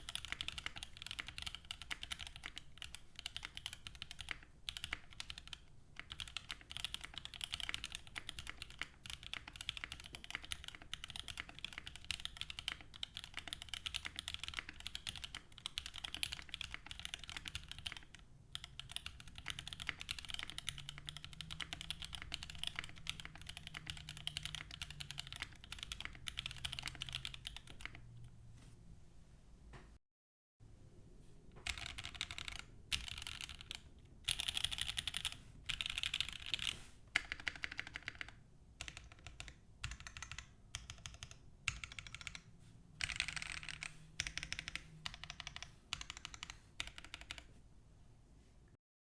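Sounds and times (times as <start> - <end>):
mechanical keyboard typing: 0.0 - 28.1, 31.6 - 47.6.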